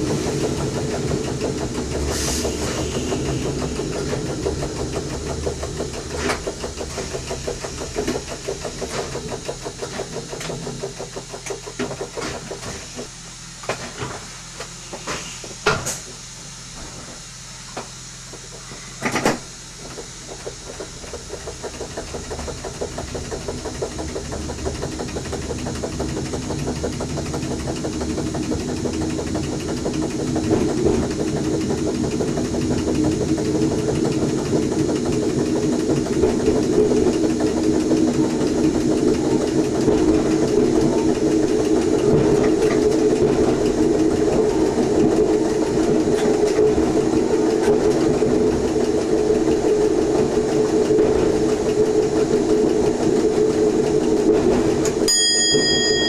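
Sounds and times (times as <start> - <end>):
electric train traction hum: 0.0 - 12.1, 20.6 - 56.0
wheel on rail rumble: 0.0 - 56.0.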